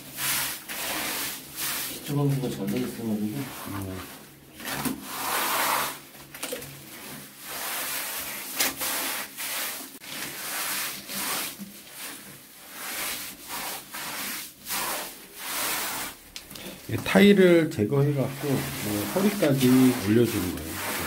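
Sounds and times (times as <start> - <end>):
mortar scraping on brick wall: 0.1 - 6.1, 6.9 - 16.2, 18.0 - 21.0.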